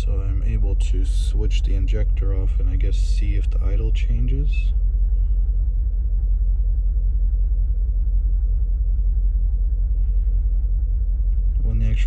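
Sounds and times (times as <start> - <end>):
car engine rough idling: 0.0 - 12.0.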